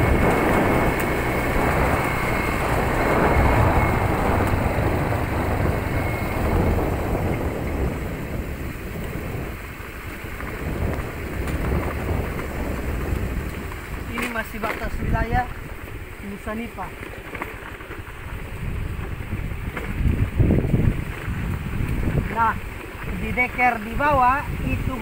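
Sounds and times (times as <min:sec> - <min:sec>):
scooter engine: 0:00.0 - 0:25.0
wind buffeting microphone: 0:00.0 - 0:25.0.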